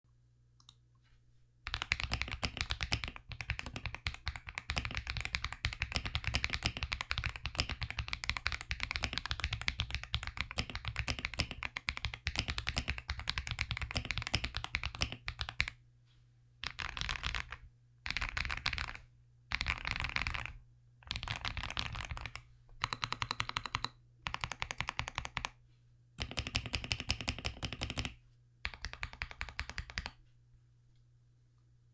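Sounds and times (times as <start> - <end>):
low room hum: 0.1 - 31.9
mechanical keyboard typing: 1.7 - 15.8, 16.6 - 25.6, 26.2 - 30.2.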